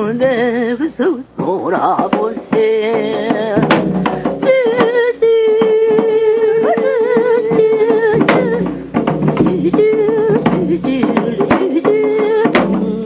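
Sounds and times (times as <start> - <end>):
sharp drum strokes: 0.0 - 13.0.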